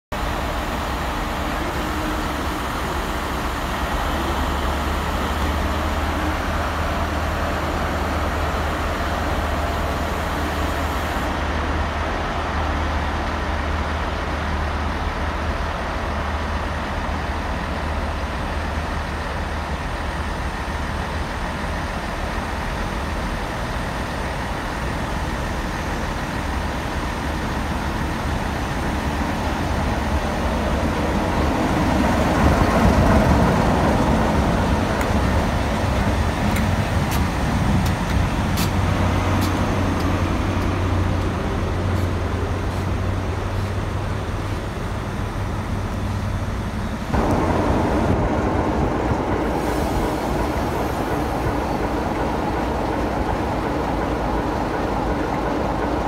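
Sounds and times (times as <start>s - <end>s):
diesel locomotives rumbling: 0.1s - 56.0s.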